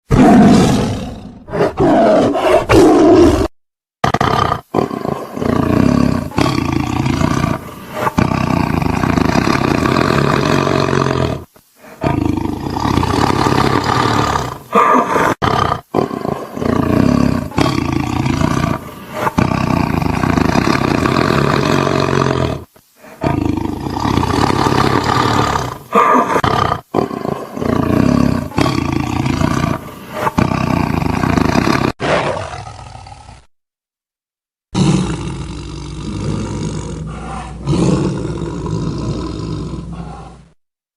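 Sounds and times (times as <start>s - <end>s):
tiger roaring: 0.1s - 33.5s, 34.7s - 40.5s.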